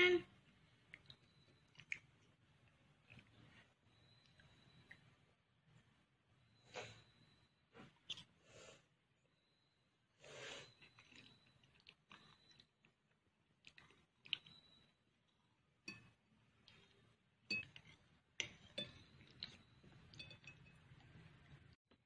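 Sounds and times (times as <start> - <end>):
soft chewing: 0.3 - 6.0, 7.8 - 9.4, 10.4 - 21.8.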